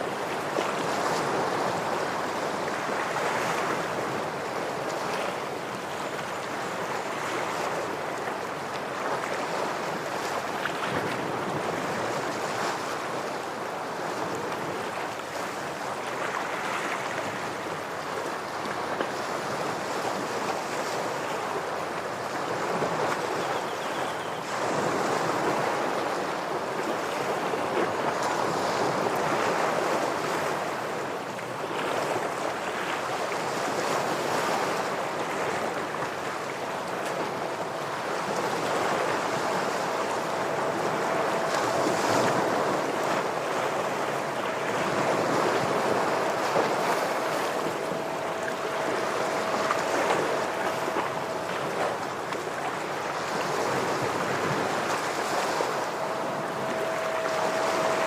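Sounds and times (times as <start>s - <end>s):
ocean waves breaking on rocks: 0.0s - 58.0s.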